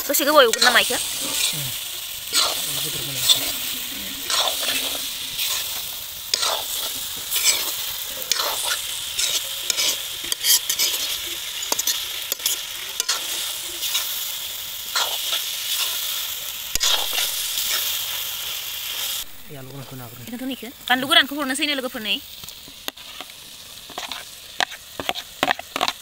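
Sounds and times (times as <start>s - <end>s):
chicken sizzling in a wok: 0.0s - 26.0s
spatula scraping a pan: 0.4s - 19.2s, 22.9s - 26.0s.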